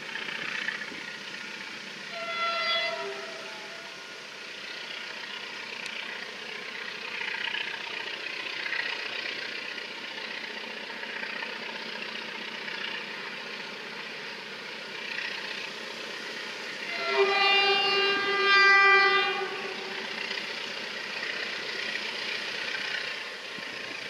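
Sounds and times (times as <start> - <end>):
distant diesel locomotive engine: 0.0 - 24.0.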